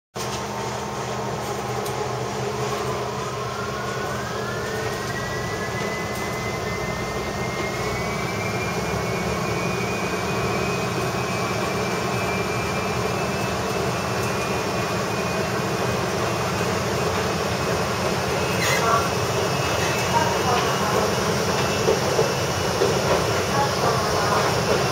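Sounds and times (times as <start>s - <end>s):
train engine hum and whine: 0.2s - 24.9s.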